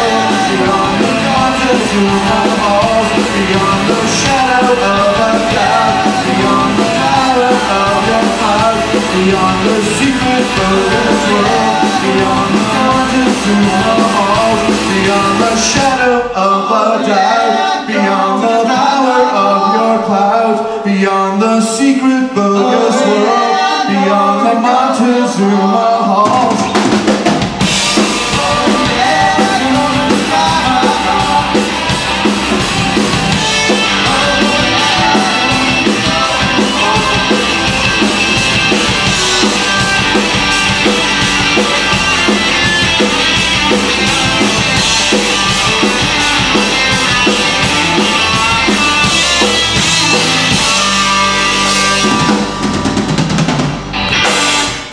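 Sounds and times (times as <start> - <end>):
drum kit steady beat: 0.0 - 16.1, 26.2 - 54.9
instrumental rock band: 0.0 - 20.0, 25.0 - 54.9.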